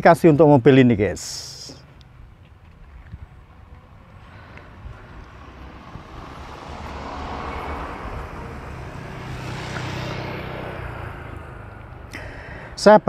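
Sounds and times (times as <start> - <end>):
motor vehicle passing: 1.8 - 12.9.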